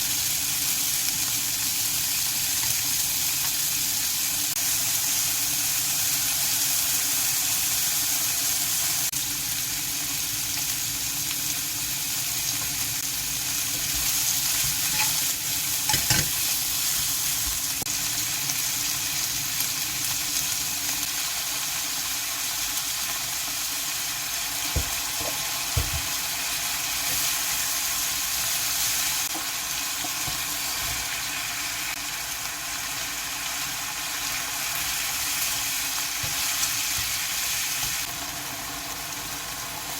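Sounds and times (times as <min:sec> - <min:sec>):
food sizzling in frying pan: 0:00.0 - 0:39.9.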